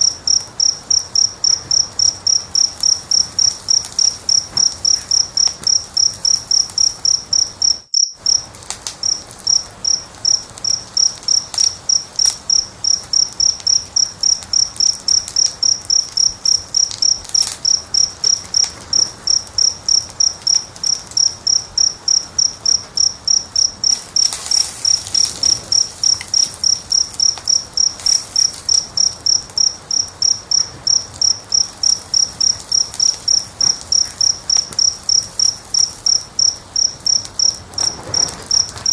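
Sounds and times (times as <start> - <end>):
cricket chirping: 0.0 - 38.9
wood fire crackling: 0.0 - 38.9.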